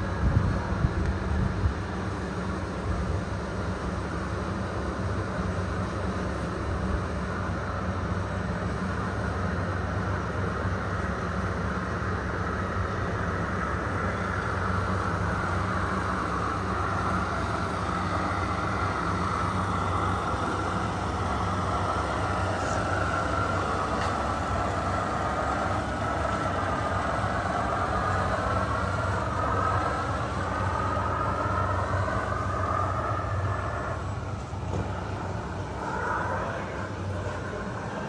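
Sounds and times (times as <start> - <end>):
model truck motor whine: 0.0 - 38.0.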